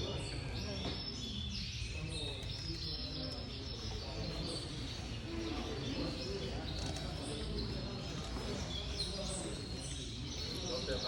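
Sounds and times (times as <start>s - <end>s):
low hum of hall: 0.0s - 11.0s.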